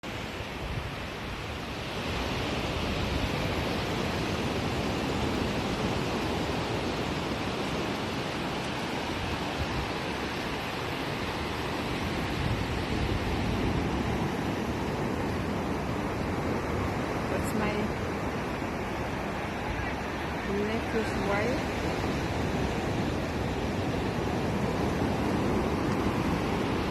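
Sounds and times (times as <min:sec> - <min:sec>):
ocean surf washing ashore: 0:00.0 - 0:26.9.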